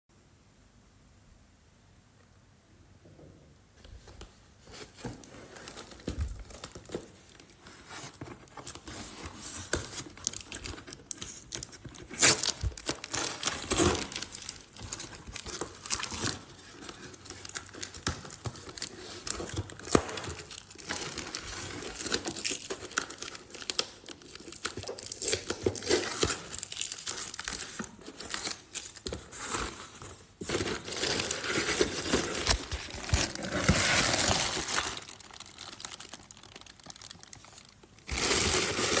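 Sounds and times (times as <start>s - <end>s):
packaging crinkling and tearing: 4.7s - 39.0s.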